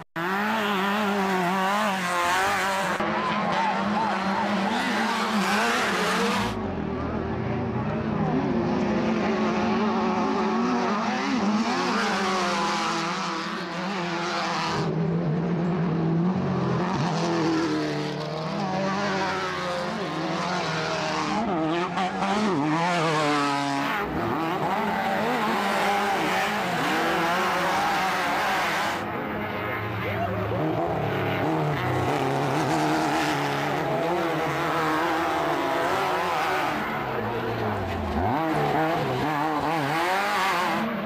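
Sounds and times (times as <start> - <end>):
racing buggy engines revving: 0.0 - 41.0.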